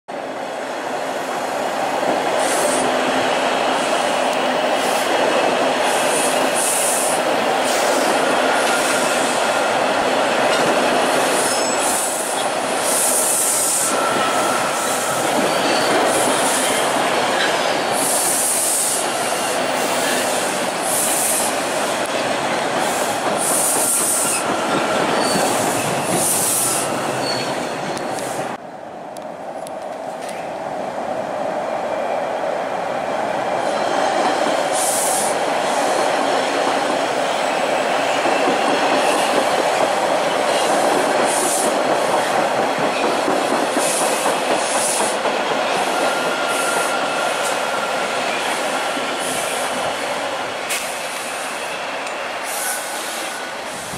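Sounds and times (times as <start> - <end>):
subway trains passing: 0.1 - 53.9.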